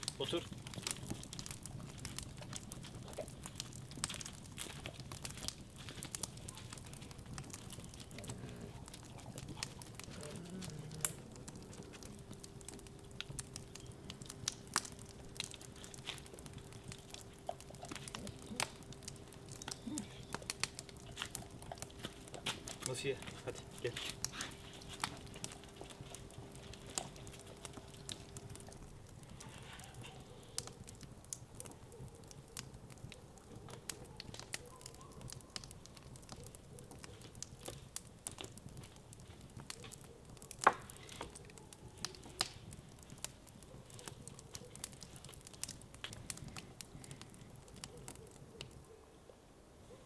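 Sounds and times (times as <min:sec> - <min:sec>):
wood fire crackling and popping: 0:00.0 - 0:49.1.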